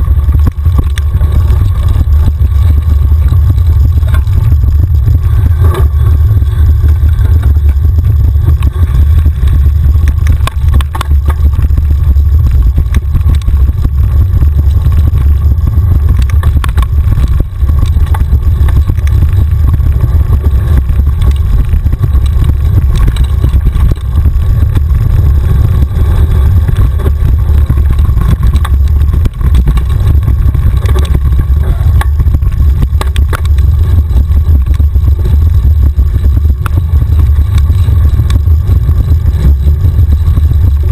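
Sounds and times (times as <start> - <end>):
bike rattles and knocks: 0.0 - 40.9
wind rumble on microphone: 0.0 - 40.9.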